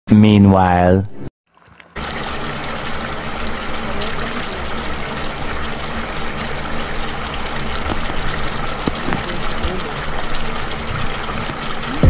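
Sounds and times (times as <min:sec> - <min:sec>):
stew bubbling in a wok: 0:01.5 - 0:12.0.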